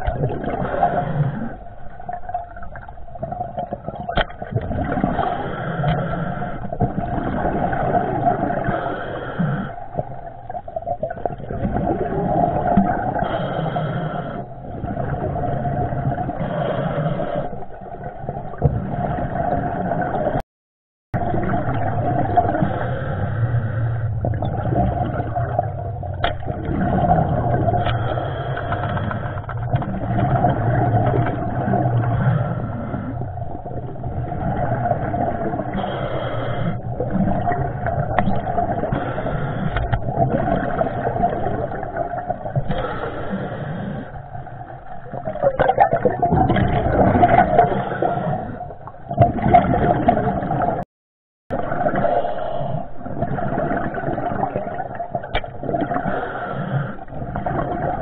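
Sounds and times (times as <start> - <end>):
muffled underwater rumble: 0.0 - 20.4, 21.2 - 50.8, 51.5 - 58.0.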